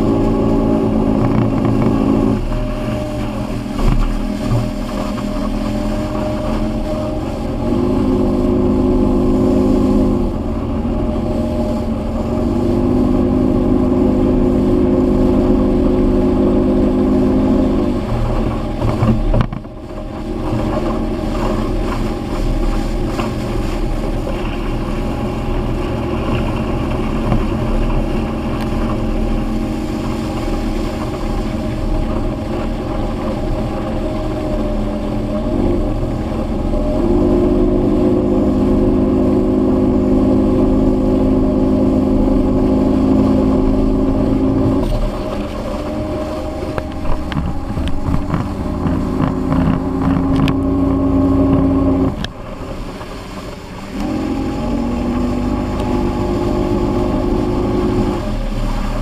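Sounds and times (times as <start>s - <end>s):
outboard motor running: 0.0s - 59.0s
rush of wind and water: 0.0s - 59.0s.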